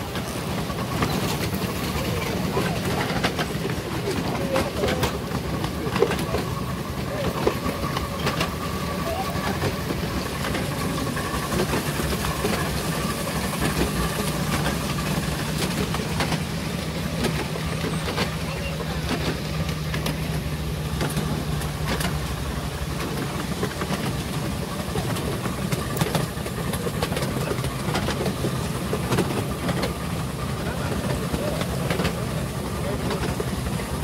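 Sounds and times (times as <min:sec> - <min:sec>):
train running noise: 0:00.0 - 0:34.0
wheels clicking on track: 0:00.0 - 0:34.0.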